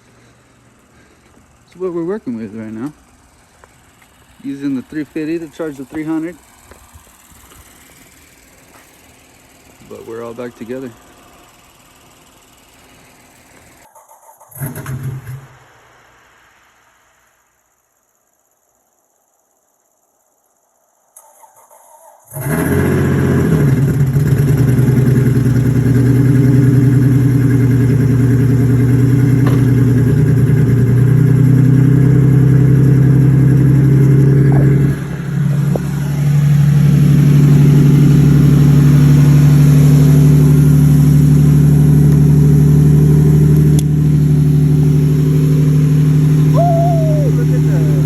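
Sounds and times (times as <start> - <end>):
car engine idling: 0.0 - 14.7, 23.6 - 48.0.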